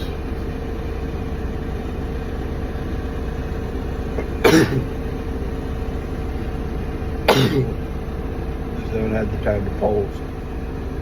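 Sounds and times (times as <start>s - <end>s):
forklift engine idling: 0.0s - 11.0s.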